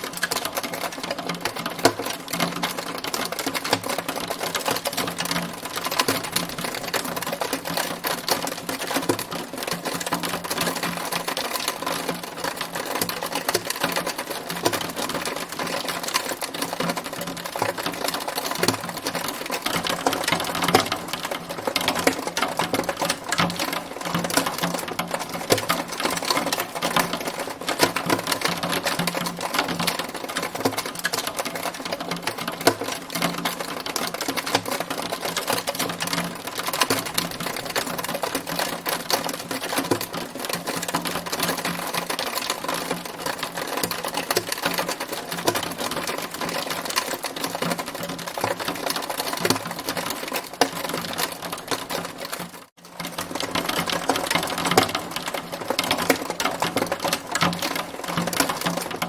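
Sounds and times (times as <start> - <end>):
hailstones rattling on hard surface: 0.0 - 59.0.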